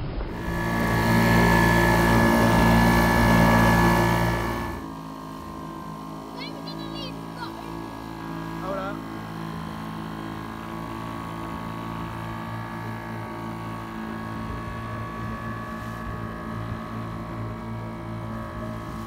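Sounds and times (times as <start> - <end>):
motorboat engine droning: 0.0 - 19.0
water rushing: 0.0 - 19.0.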